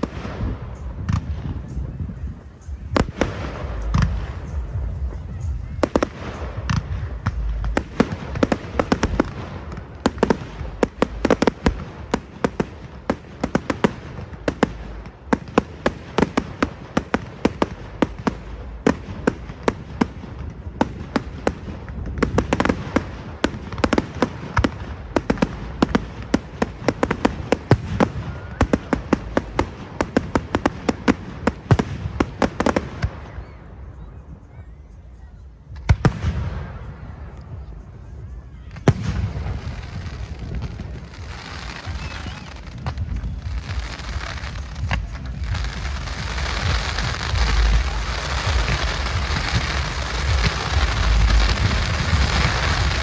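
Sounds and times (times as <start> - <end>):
low rumble: 0.0 - 13.4, 14.1 - 15.9, 17.7 - 53.0
fireworks crackling pops: 0.0 - 53.0.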